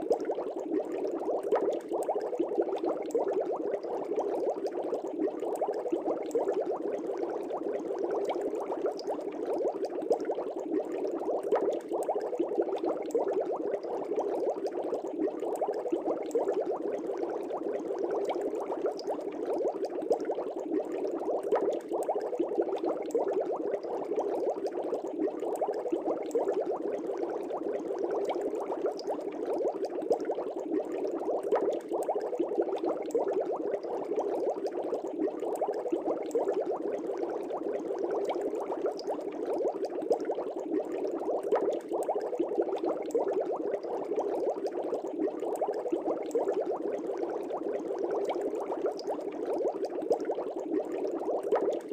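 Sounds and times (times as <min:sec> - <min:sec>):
aquarium air bubbles: 0:00.0 - 0:51.9.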